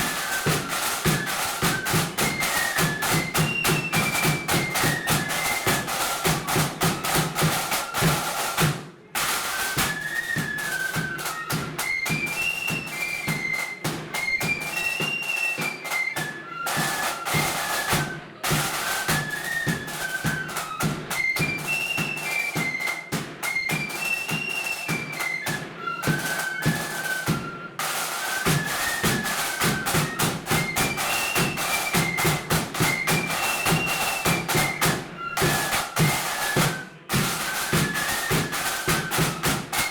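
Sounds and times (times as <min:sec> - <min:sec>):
flute melody: 0:00.0 - 0:39.9
rapid snare drumming: 0:00.0 - 0:39.9.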